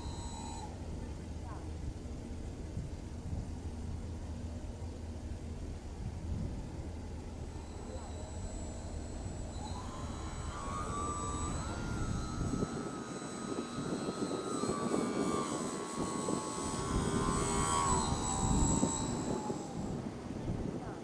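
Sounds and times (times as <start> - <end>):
electric motor and propeller whining: 0.0 - 21.0.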